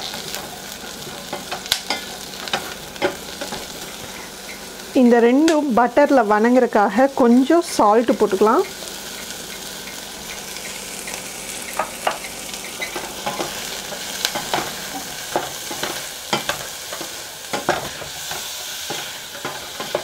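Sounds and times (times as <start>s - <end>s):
vegetables sizzling in butter: 0.0s - 20.0s.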